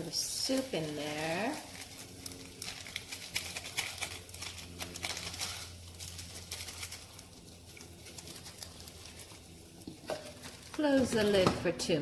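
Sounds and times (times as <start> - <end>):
water boiling in a pot: 0.0 - 12.0.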